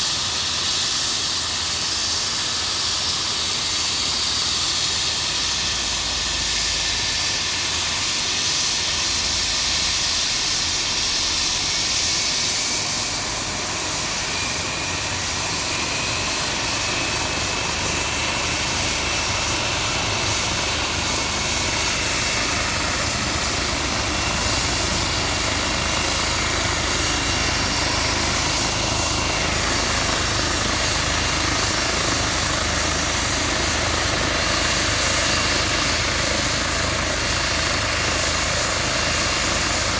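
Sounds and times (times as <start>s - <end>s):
engine and rotor noise: 0.0s - 39.9s
helicopter turbine whine: 0.0s - 39.9s.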